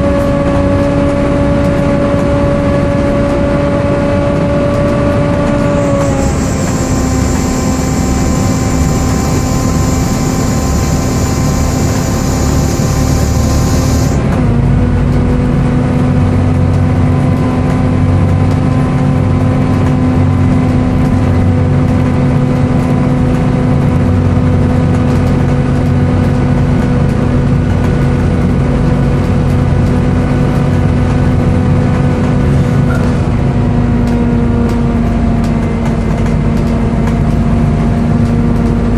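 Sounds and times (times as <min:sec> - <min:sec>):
bus engine rumble: 0:00.0 - 0:38.9
cooling fan whine: 0:00.0 - 0:38.9.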